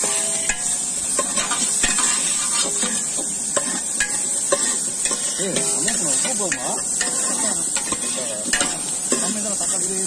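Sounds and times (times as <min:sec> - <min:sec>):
ladle scraping metal pot: 0:00.0 - 0:09.4
frying sizzle: 0:00.0 - 0:10.0.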